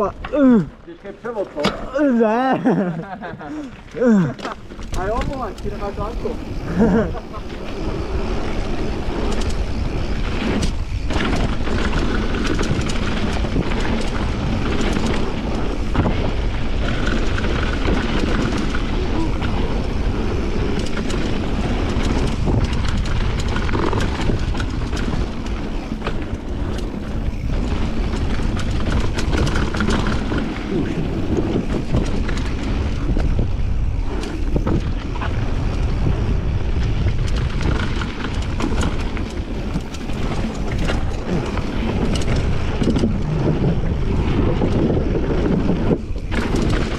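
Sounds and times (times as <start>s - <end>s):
bike rattling: 0.0s - 46.9s
wind rushing over microphone: 0.0s - 46.9s
tyres on dirt: 0.1s - 46.9s
clicks and knocks over bumps: 3.4s - 7.8s, 10.4s - 36.1s, 36.8s - 46.9s.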